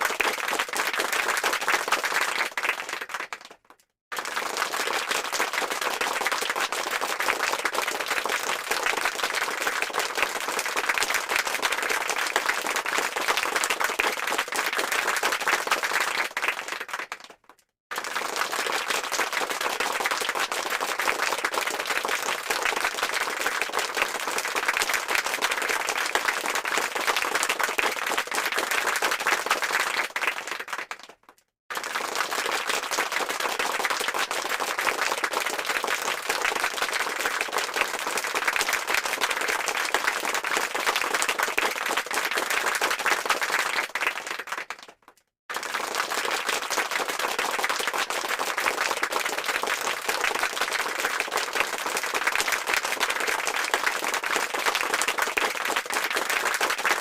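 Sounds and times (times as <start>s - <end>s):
crowd applause: 0.0s - 57.0s.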